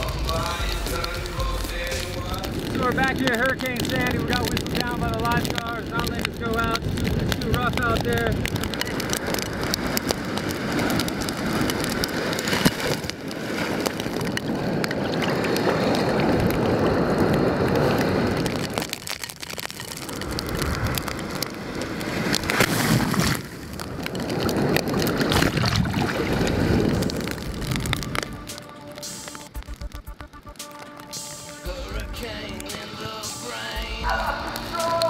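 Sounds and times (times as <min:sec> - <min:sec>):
wind buffeting microphone: 0:00.0 - 0:28.8
storm surf: 0:00.0 - 0:35.0.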